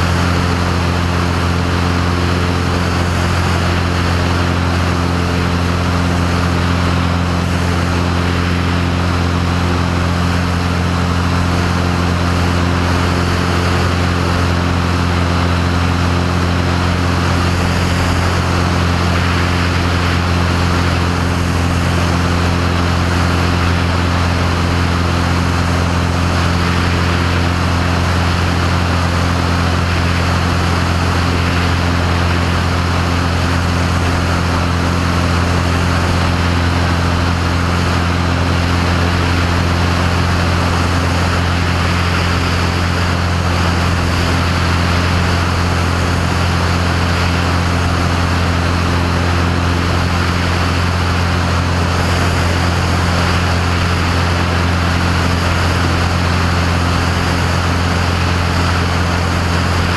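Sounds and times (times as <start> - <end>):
propeller airplane engine droning: 0.0 - 59.9.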